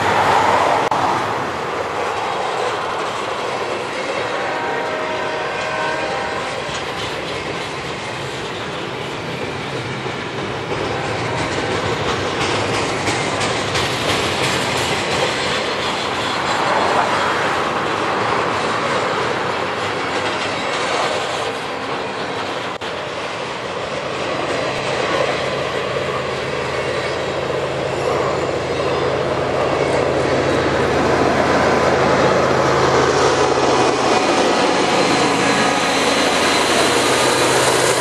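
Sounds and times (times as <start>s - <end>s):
train wheels rolling on rails: 0.0s - 38.0s.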